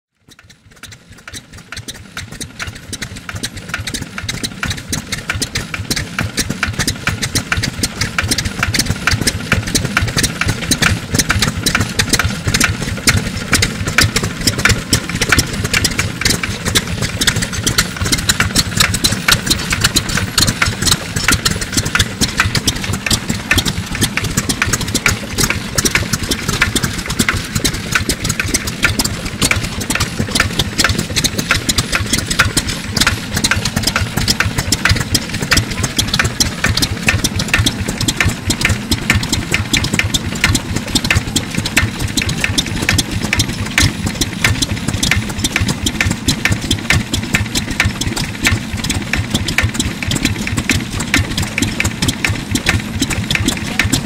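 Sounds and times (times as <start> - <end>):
diesel engine running: 0.1 - 54.0.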